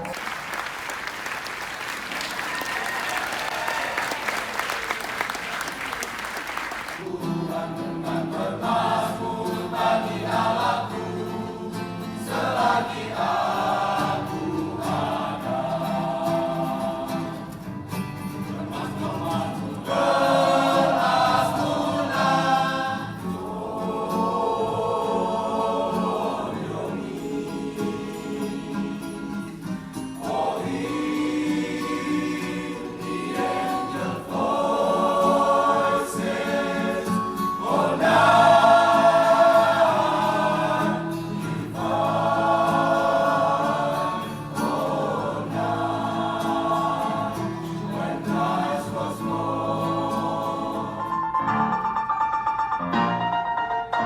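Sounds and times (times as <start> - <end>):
choir singing: 2.0 - 51.9.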